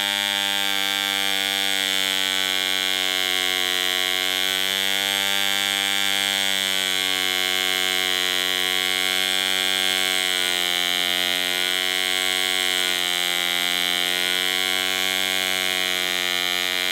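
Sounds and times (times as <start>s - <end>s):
model aircraft engine buzzing: 0.0s - 16.9s.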